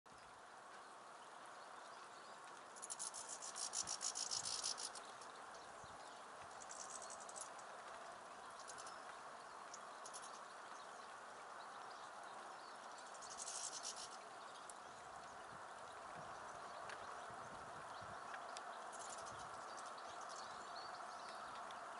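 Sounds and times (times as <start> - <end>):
steady background hiss: 0.1 - 21.9
finches twittering: 1.7 - 7.6, 8.4 - 21.7.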